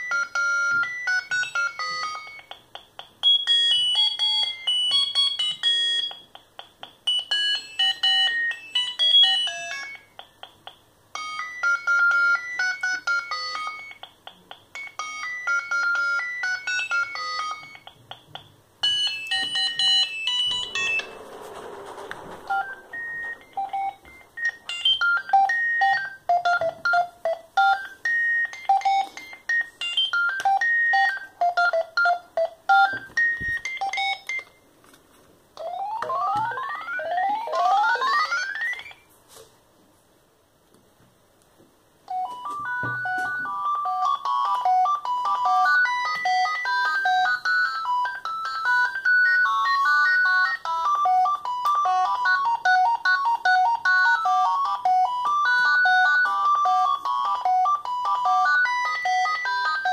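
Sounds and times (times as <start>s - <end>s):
phone ringtone beep melody: 0.0s - 6.4s, 7.1s - 14.1s, 14.7s - 18.1s, 18.8s - 34.6s, 35.6s - 39.1s, 42.1s - 59.9s.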